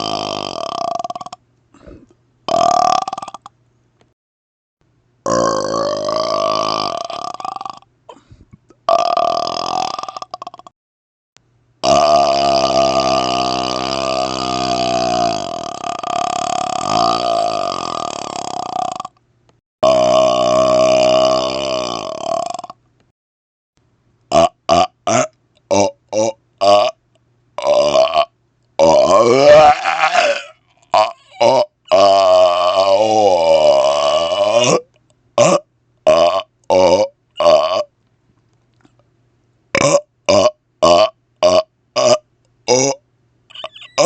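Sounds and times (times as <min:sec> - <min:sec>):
man burping: 0:00.0 - 0:03.5, 0:05.3 - 0:10.7, 0:11.8 - 0:19.1, 0:19.8 - 0:22.8, 0:24.3 - 0:27.0, 0:27.6 - 0:37.9, 0:39.8 - 0:44.0.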